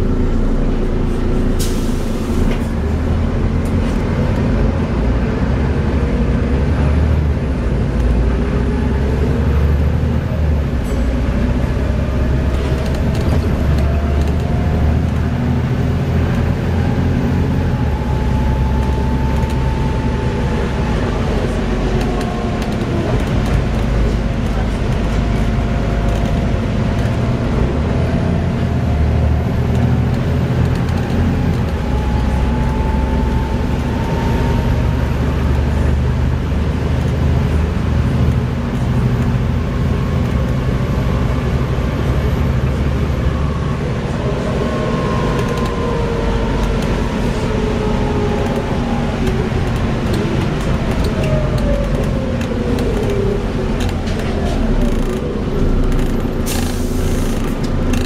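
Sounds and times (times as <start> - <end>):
bus diesel engine running: 0.0 - 58.0
drivetrain whine: 0.0 - 58.0.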